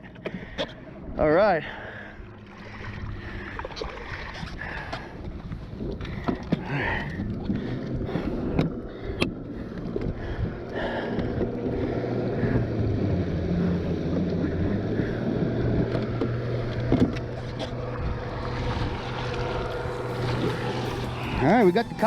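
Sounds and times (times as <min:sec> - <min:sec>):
small boat motor running: 0:00.0 - 0:22.0
water noise: 0:00.0 - 0:22.0.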